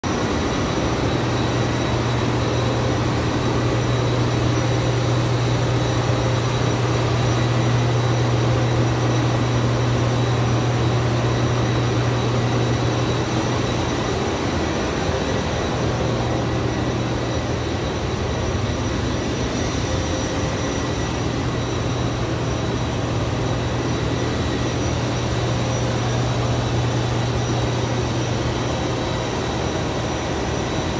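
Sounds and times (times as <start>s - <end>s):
loud mechanical drone: 0.0s - 30.9s
faint high whines: 0.1s - 30.9s.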